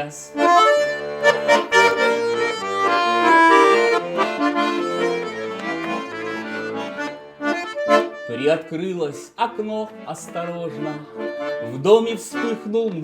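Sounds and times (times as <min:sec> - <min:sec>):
button accordion playing: 0:00.0 - 0:13.0.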